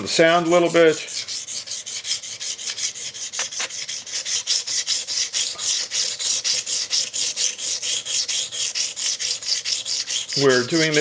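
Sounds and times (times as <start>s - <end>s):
knife scraping on sharpening plate: 1.0s - 11.0s.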